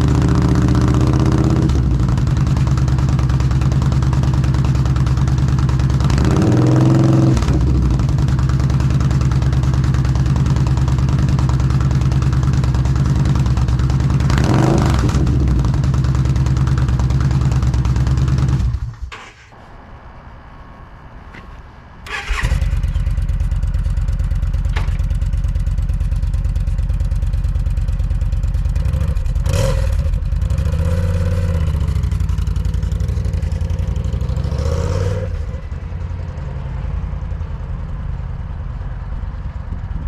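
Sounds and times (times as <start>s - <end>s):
motorcycle engine idling and revving: 0.0s - 19.1s, 22.1s - 40.0s.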